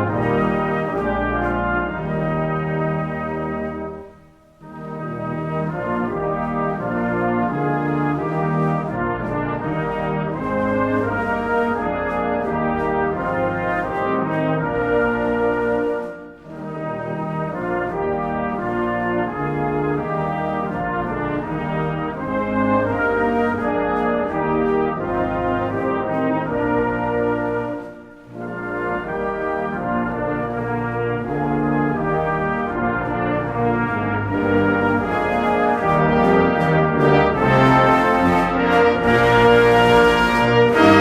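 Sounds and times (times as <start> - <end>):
brass ensemble playing chords: 0.0 - 41.0.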